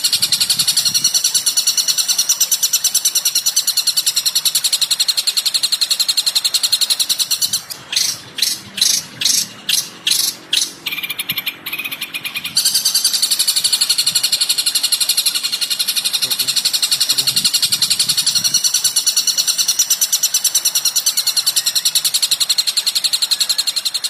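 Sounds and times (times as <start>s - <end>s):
fast high bird trill: 0.0s - 24.0s
lower bird trill: 0.0s - 24.0s.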